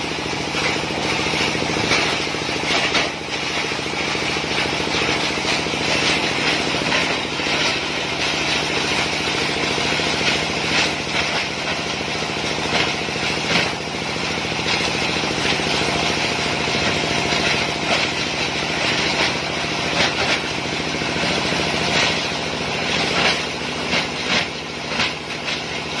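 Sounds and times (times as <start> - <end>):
plastic shredding machine running: 0.0 - 26.0.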